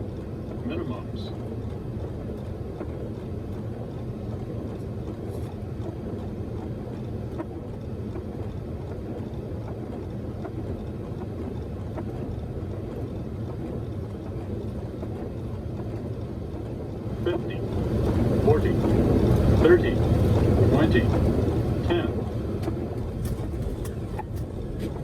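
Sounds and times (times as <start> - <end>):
cockpit airflow and engine rushing: 0.0 - 25.0.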